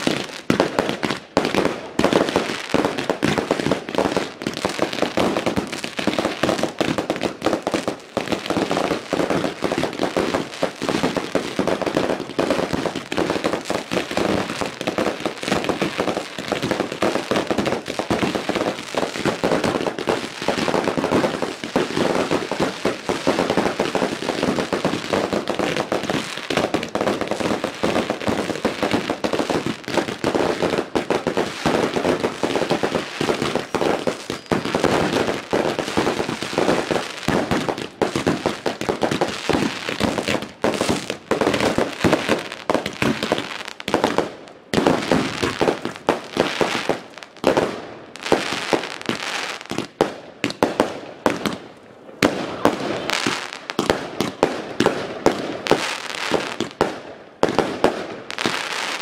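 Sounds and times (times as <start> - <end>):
fireworks crackling and popping: 0.0 - 59.0.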